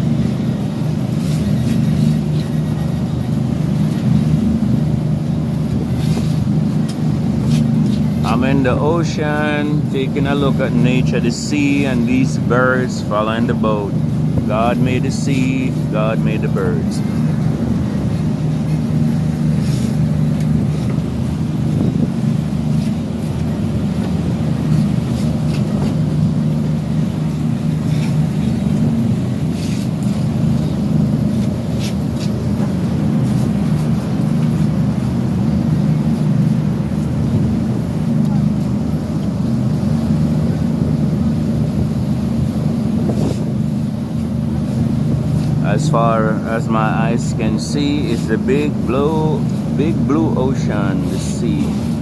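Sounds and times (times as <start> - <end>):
boat engine droning: 0.0 - 52.0
water noise: 0.0 - 52.0
wind: 0.0 - 52.0.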